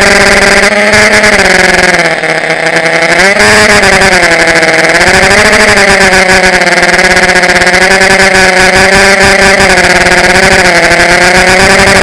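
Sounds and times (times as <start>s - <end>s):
model aircraft motors buzzing: 0.0s - 12.0s.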